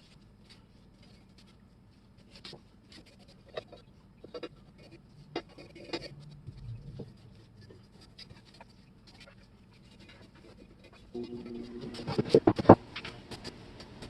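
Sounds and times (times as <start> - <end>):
faint scratching: 0.0 - 14.0.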